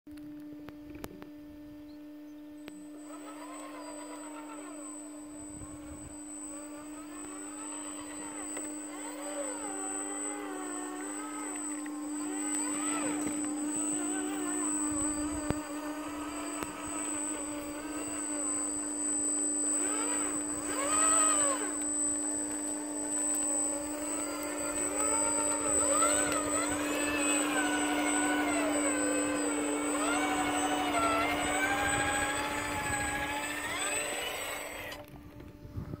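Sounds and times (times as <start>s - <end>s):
steady hum: 0.1s - 36.0s
rc car motor and gear whine: 0.2s - 36.0s.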